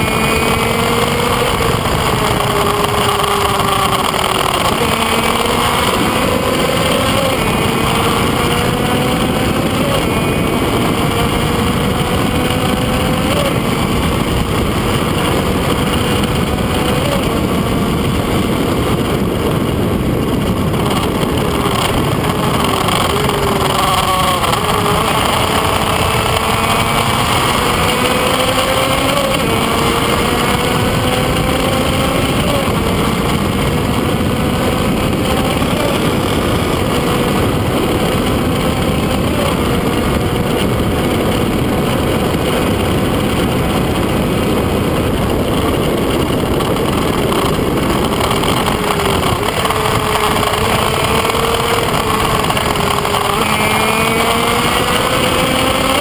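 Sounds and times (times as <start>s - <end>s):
heavy wind rush: 0.0s - 56.0s
two-stroke motorcycle engine: 0.0s - 56.0s.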